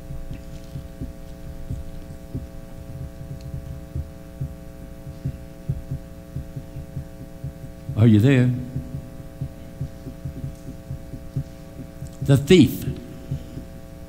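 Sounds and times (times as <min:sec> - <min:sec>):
electrical hum: 0:00.0 - 0:14.0
soft low thumps: 0:00.0 - 0:14.0.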